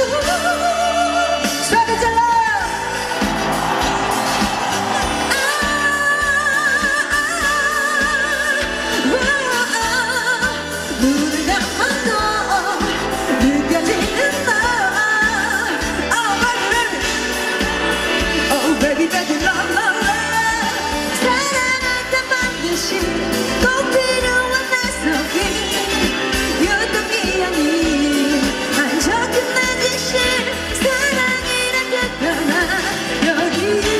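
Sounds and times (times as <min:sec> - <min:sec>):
woman singing into microphone: 0:00.0 - 0:03.2, 0:04.9 - 0:33.9
amplified pop accompaniment with beat: 0:00.0 - 0:33.9.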